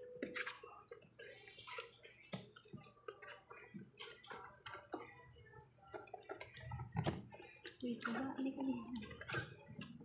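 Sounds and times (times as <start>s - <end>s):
puppies scrabbling on plastic: 0.0s - 10.0s.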